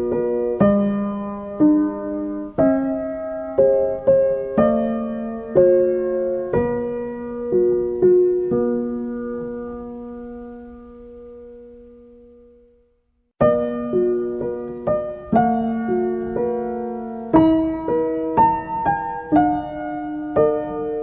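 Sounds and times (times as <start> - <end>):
slow solo piano: 0.0 - 21.0.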